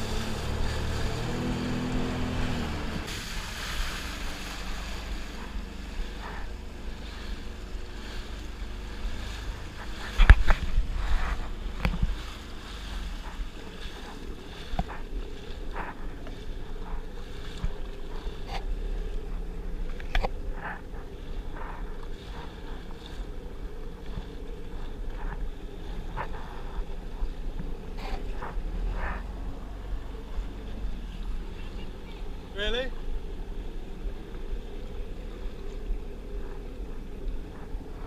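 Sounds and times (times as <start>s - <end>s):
jet ski engine running: 0.0s - 38.0s
water slapping against hull: 0.0s - 38.0s
wind on microphone: 0.0s - 38.0s.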